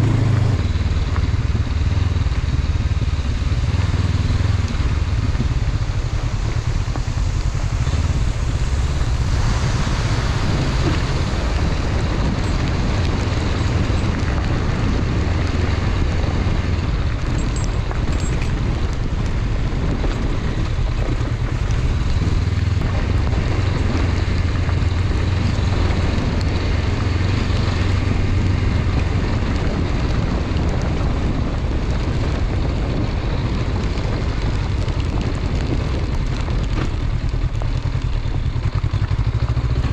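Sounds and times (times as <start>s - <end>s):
motorcycle engine running: 0.0s - 39.9s
wind noise over microphone: 0.0s - 39.9s.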